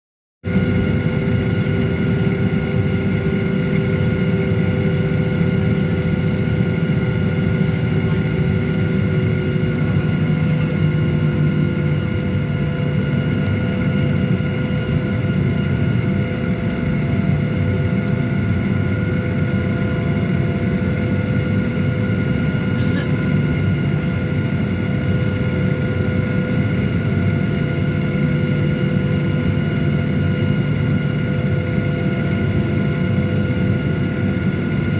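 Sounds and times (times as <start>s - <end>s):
jet engines idling: 0.5s - 34.9s.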